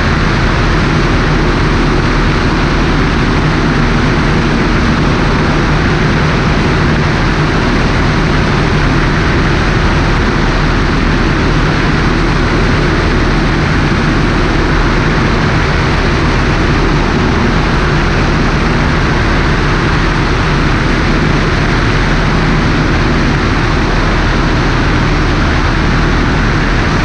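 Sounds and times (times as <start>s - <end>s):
airplane engine and propeller: 0.0s - 27.0s
wind rushing over microphone: 0.0s - 27.0s.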